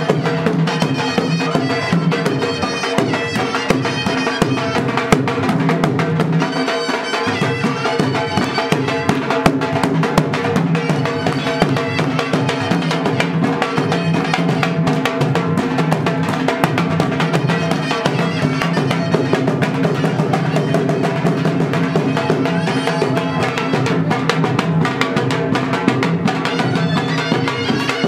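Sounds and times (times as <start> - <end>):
dhol drums beating: 0.0 - 28.0.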